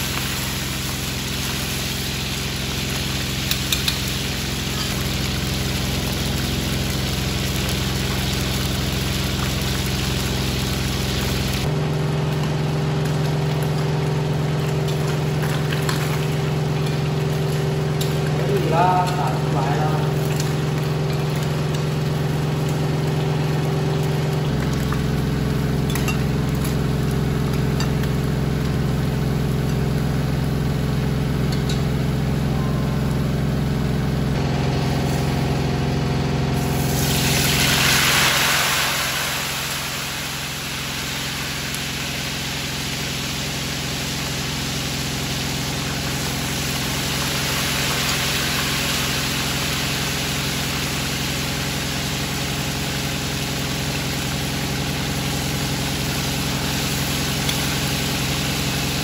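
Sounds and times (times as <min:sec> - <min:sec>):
food sizzling in deep-frying oil: 0:00.0 - 0:32.4, 0:33.0 - 0:59.0
range hood fan humming: 0:00.0 - 0:59.0.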